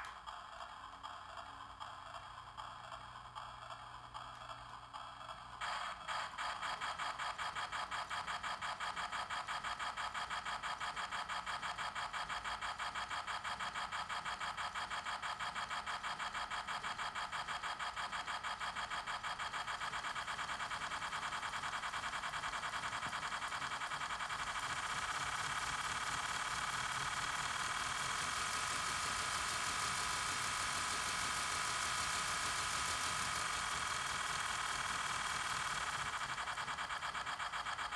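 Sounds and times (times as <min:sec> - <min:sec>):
model steam locomotive chuffing: 0:00.1 - 0:37.9.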